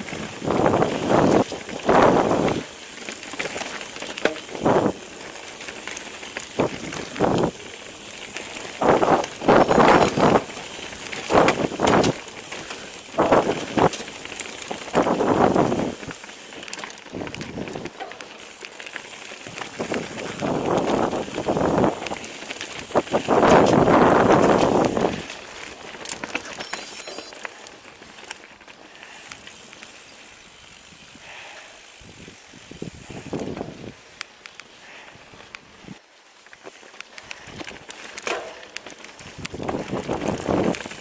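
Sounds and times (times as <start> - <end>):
bike tyres crunching over gravel: 0.0 - 41.0.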